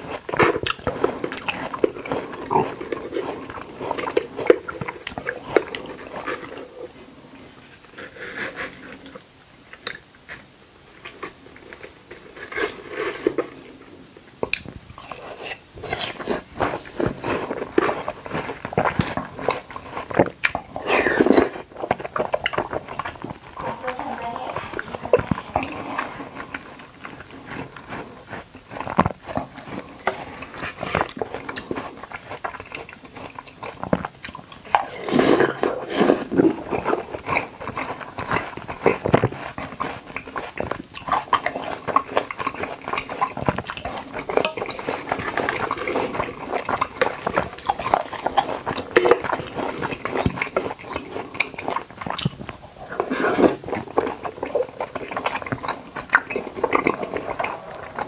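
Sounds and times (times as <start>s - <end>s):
chewing and biting watermelon: 0.0s - 58.0s.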